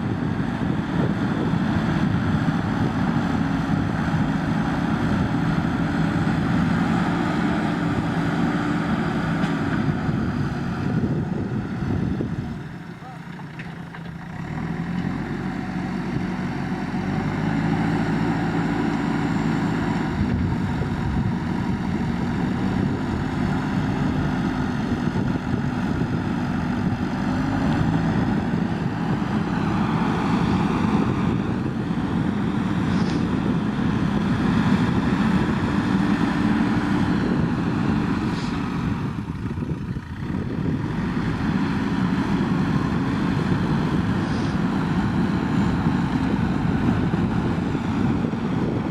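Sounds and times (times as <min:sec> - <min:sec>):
backhoe diesel engine revving: 0:00.0 - 0:48.9.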